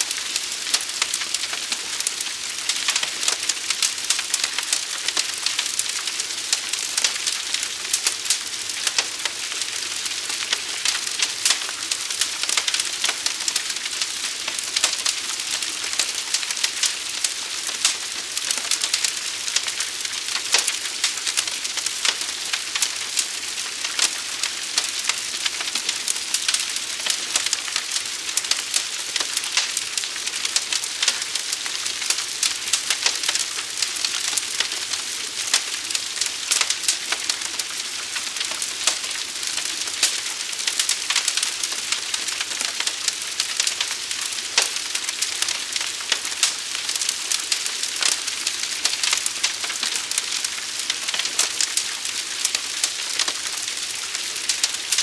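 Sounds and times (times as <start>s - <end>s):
fire hissing and crackling: 0.0s - 55.0s.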